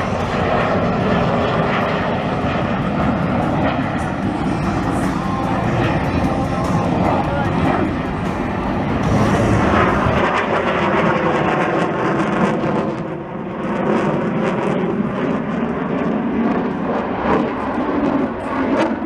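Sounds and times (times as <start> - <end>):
airplane engines flying low: 0.0 - 19.0.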